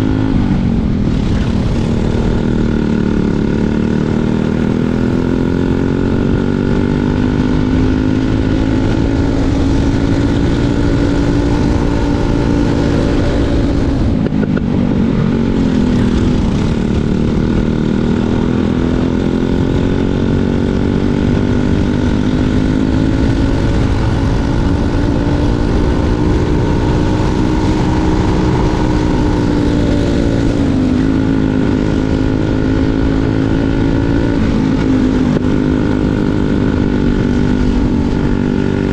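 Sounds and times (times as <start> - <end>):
kart engine at racing revs: 0.0 - 38.9.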